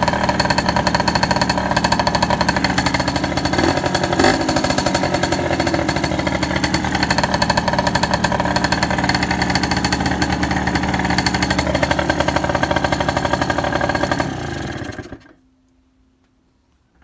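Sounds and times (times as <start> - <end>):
two-stroke engine running: 0.0 - 15.4.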